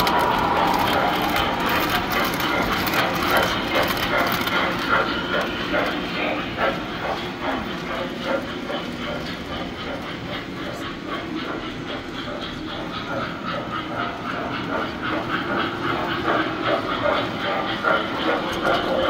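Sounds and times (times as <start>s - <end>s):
model train motor hum: 0.0s - 19.0s
wheels clicking over track joints: 0.0s - 19.0s.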